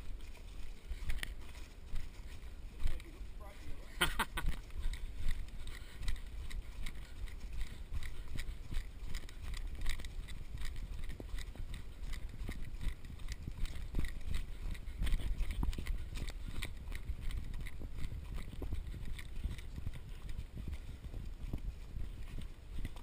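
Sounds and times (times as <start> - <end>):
running footsteps on dirt: 0.0 - 23.0.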